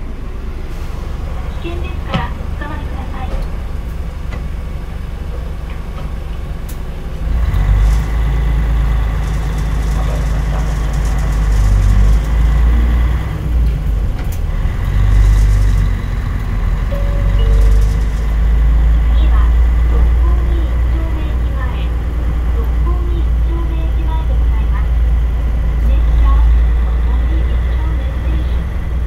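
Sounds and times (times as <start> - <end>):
diesel bus engine rumble: 0.0 - 29.0.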